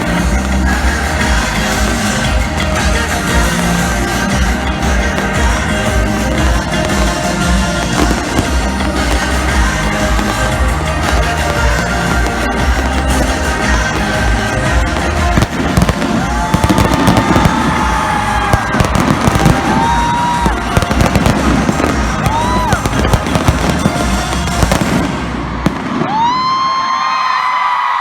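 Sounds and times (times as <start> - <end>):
fireworks crackling and banging: 0.0 - 27.1
crowd shrieking: 0.0 - 28.0
loud concert music: 0.0 - 28.0.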